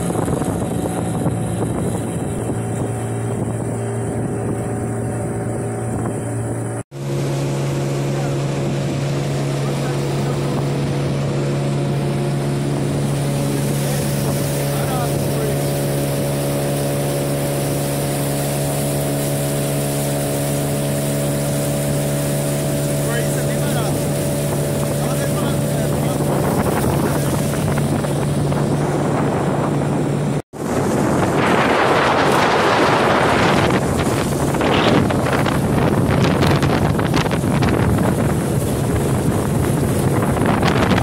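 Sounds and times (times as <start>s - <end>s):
outboard motor running: 0.0s - 41.0s
water rushing: 0.0s - 41.0s
wind on microphone: 0.0s - 41.0s.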